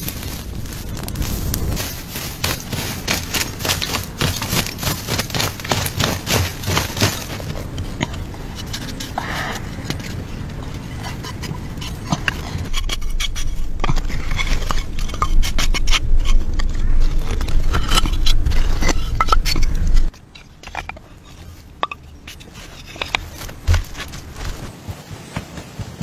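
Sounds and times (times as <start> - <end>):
low steady rumble: 0.0 - 24.7
clay tiles scraping and knocking: 1.8 - 24.7.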